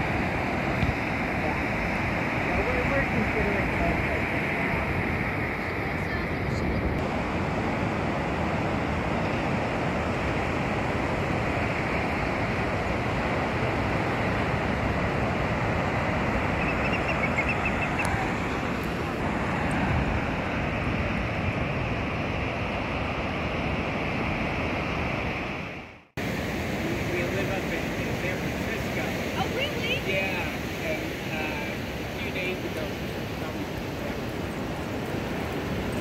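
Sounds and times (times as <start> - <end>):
ocean surf breaking: 0.0 - 36.0
wind on microphone: 0.0 - 36.0.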